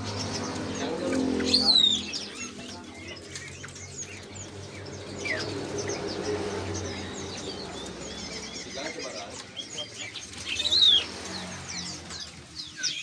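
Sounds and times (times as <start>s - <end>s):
birds whistling: 0.0s - 13.0s
caged birds chirping: 0.0s - 13.0s.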